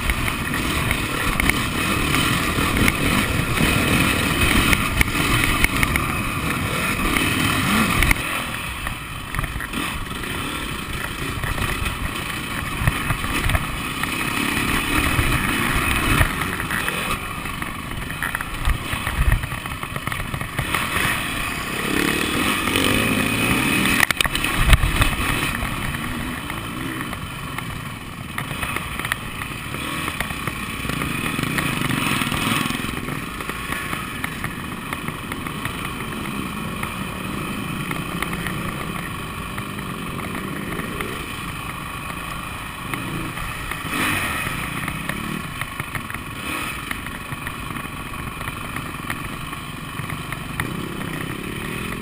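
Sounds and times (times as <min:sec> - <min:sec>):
motocross engine revving: 0:00.0 - 0:52.0.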